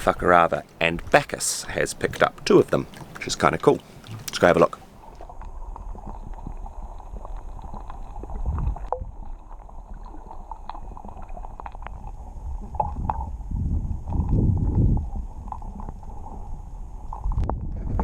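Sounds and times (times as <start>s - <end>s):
water sloshing and gurgling: 0.0s - 18.0s.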